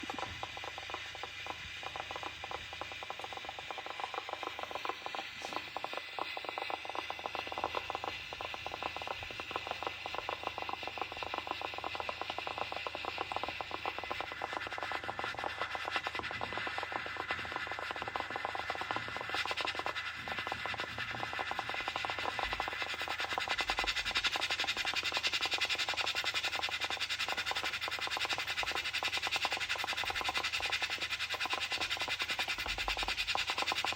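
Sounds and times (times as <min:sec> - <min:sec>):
rice cooker bubbling crackle: 0:00.0 - 0:33.9.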